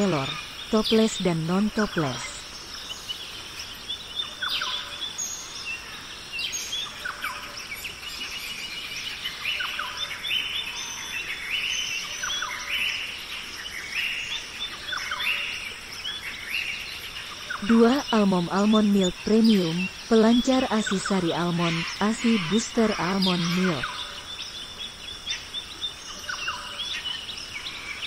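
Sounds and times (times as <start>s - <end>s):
birds chirping: 0.0s - 28.0s
faint outdoor hiss: 0.0s - 28.0s.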